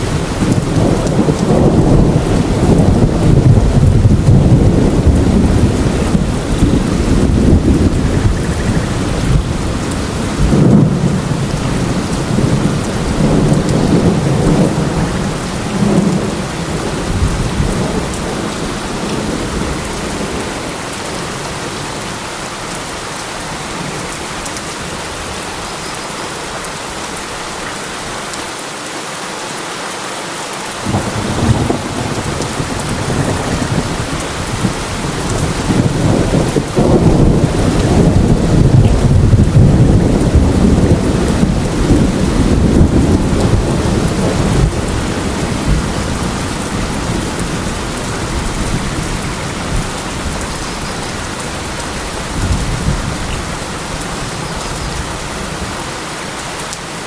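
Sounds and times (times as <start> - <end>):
thunder rumbling: 0.0 - 21.8, 30.8 - 55.8
rain falling in forest: 0.0 - 57.0.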